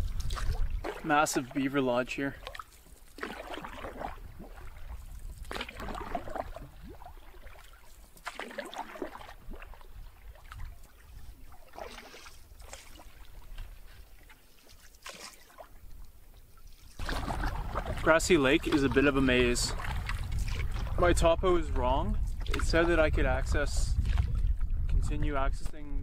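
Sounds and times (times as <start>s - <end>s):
paddle splashing through water: 0.0s - 25.0s.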